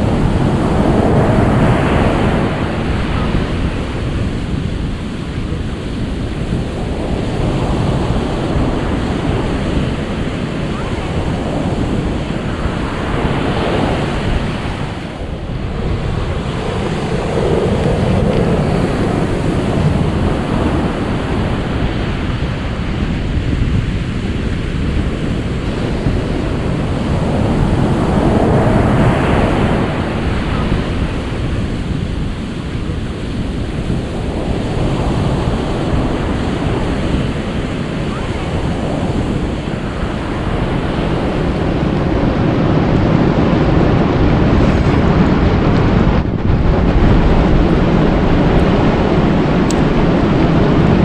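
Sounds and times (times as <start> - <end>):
ocean waves rushing: 0.0 - 51.0.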